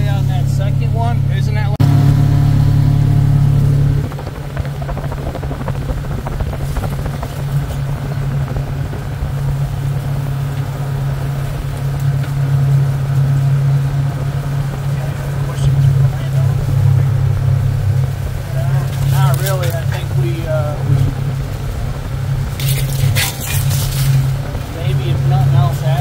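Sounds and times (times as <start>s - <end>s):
vehicle engine and road drone: 0.0s - 26.0s.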